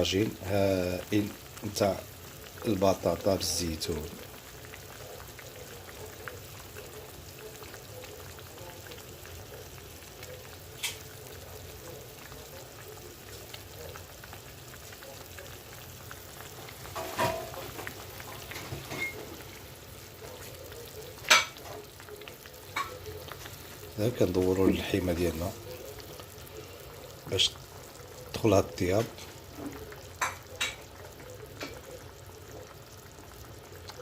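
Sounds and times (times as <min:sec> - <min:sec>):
meat sizzling in oil: 0:00.0 - 0:34.0.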